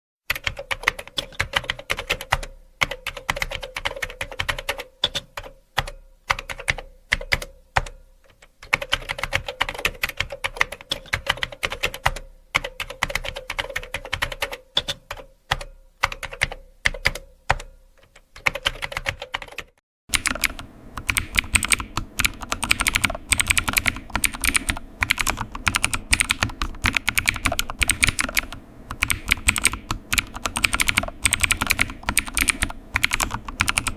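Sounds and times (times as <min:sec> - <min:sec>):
computer keyboard typing: 0:00.3 - 0:33.9.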